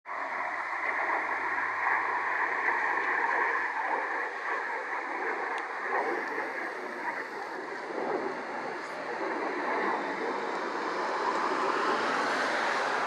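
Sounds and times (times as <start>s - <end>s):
distant jet engines roaring: 0.1s - 13.0s.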